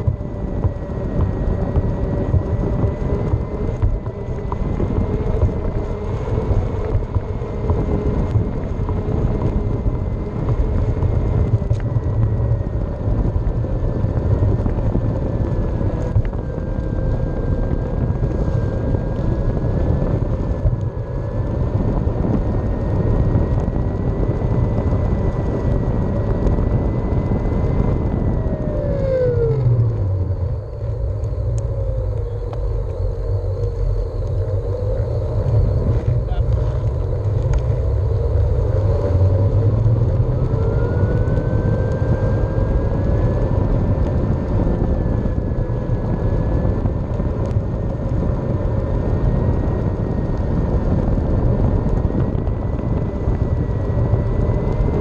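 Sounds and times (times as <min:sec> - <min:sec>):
faint whine: 0:00.0 - 0:55.0
skateboard wheels rumbling on concrete: 0:00.0 - 0:55.0.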